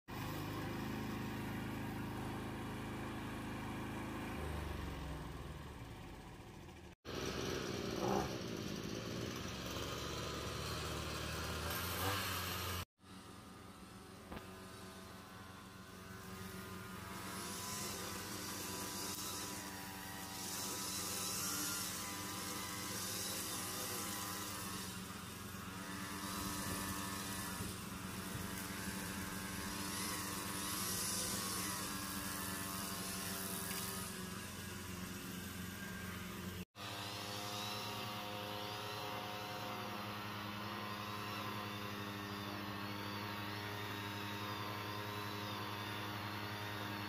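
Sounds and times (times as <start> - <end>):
string trimmer engine running: 0.1 - 47.0
trimmer line hissing through grass: 7.1 - 47.0.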